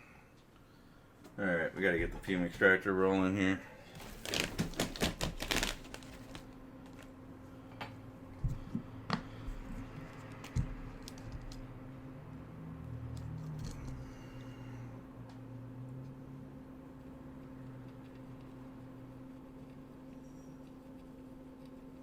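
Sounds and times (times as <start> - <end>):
extractor fan humming: 0.0 - 22.0.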